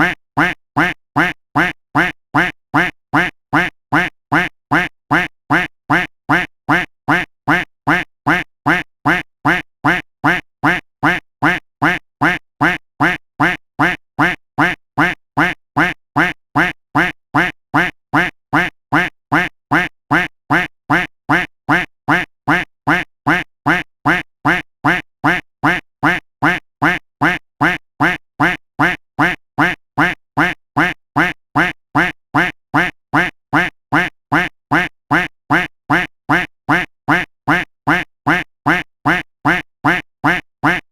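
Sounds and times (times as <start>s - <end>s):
duck quack sound effect: 0.0s - 40.9s.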